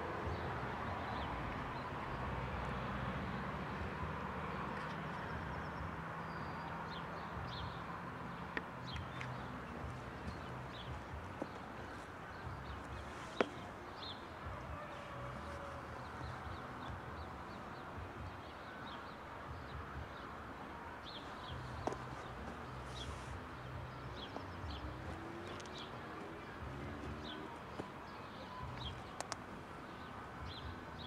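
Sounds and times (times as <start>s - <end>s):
faint outdoor background noise: 0.0s - 31.0s.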